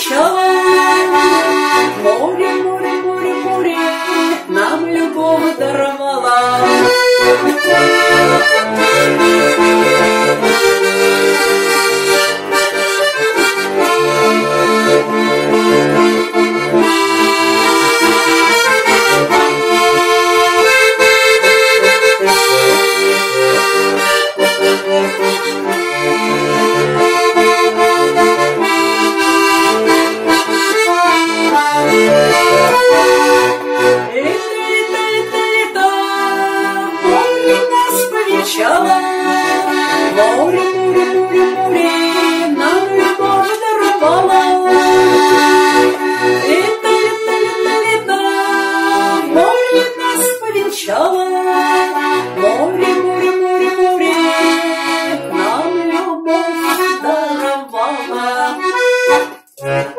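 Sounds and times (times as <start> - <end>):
button accordion playing: 0.0 - 59.9.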